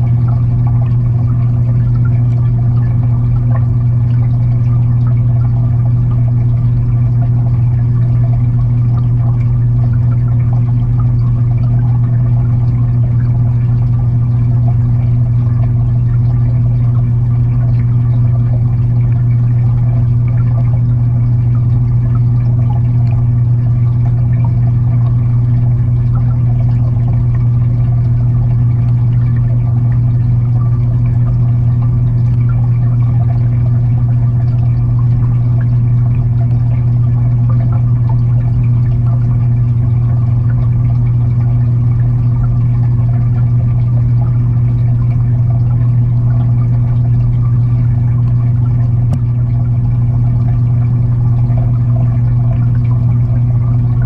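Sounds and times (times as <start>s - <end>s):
aquarium pump humming underwater: 0.0s - 54.0s
moving water: 0.0s - 54.0s.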